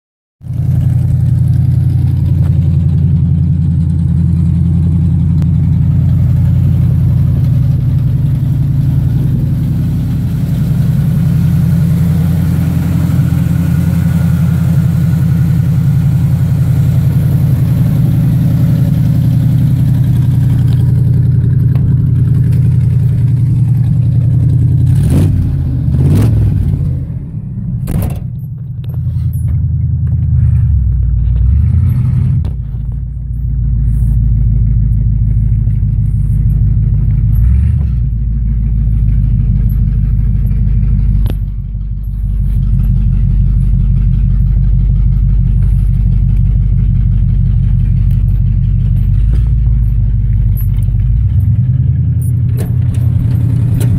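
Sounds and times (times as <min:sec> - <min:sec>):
loud car engine idling: 0:00.4 - 0:53.9.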